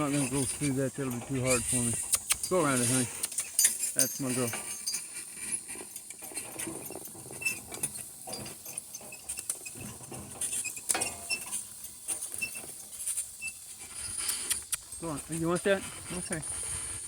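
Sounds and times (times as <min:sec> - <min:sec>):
cart rattling and clicking: 0:00.0 - 0:16.6
patter of steps: 0:00.0 - 0:17.0
rustling: 0:00.0 - 0:17.0.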